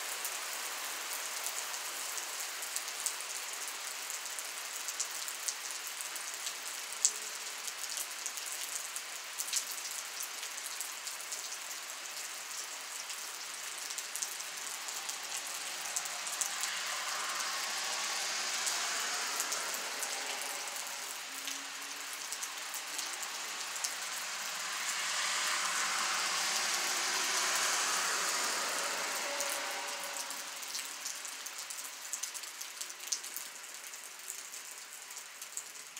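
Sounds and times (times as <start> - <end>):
light rain on pavement: 0.0 - 35.9.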